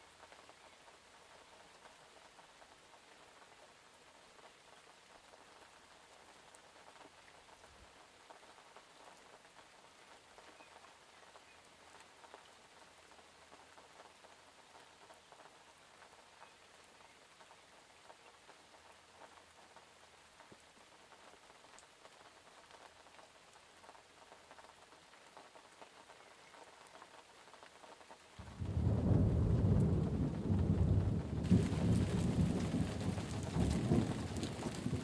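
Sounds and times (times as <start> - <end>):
rain drops tapping: 0.1 - 35.0.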